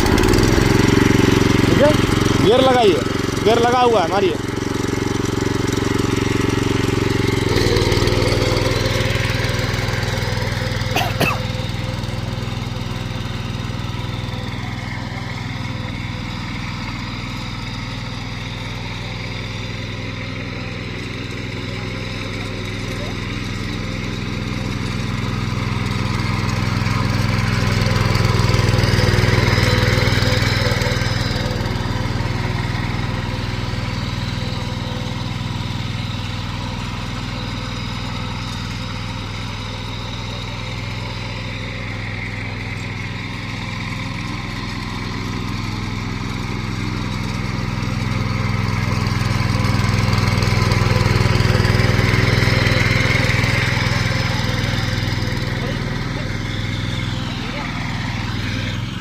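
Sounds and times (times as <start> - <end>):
petrol engine running: 0.0 - 59.0.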